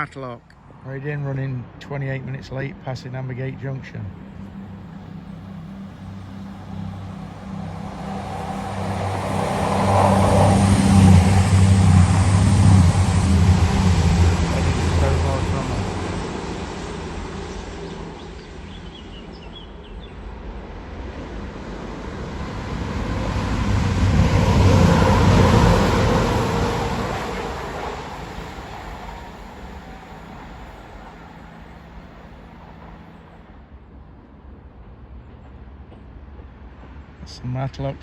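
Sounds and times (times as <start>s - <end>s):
diesel train passing: 0.0s - 38.0s.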